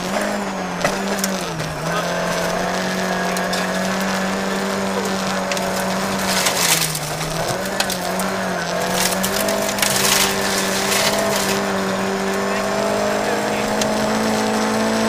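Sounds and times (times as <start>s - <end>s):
car engine at high revs: 0.0s - 15.0s
gravel crackling and stones rattling: 0.0s - 15.0s.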